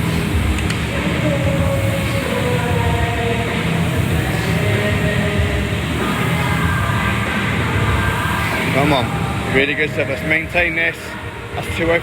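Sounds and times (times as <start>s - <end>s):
rowing machine flywheel whirring: 0.0s - 12.0s.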